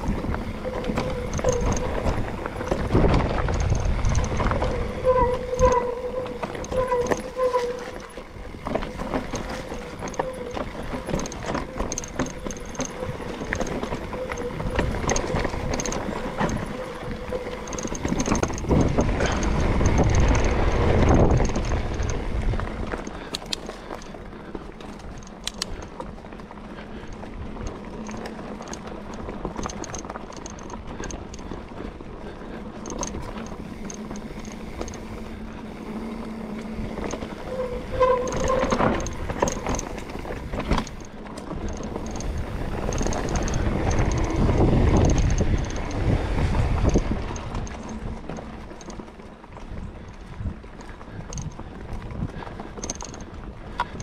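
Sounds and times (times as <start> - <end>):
bike rattling over bumps: 0.0 - 54.0
bike tyres on dirt: 0.0 - 54.0.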